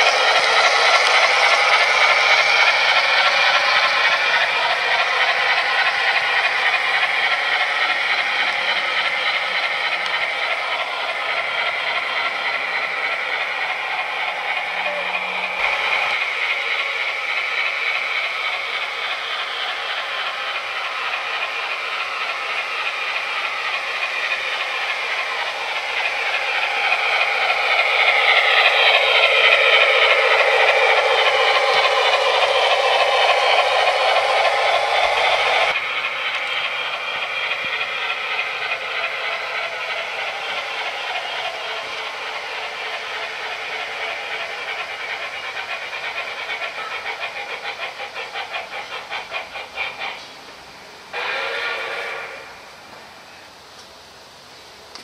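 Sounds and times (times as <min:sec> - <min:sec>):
model train wheels clattering: 0:00.0 - 0:53.0.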